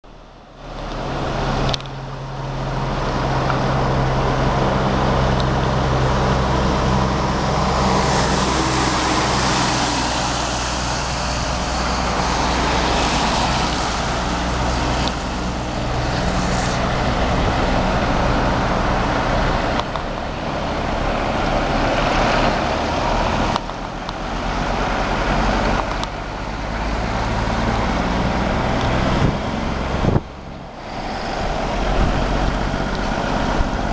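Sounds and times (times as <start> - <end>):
diesel truck engine running: 0.1 - 33.9.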